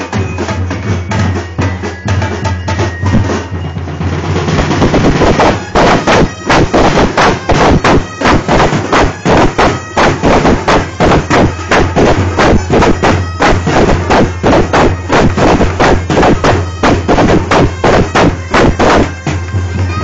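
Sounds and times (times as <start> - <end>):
drum line playing: 0.0 - 20.0.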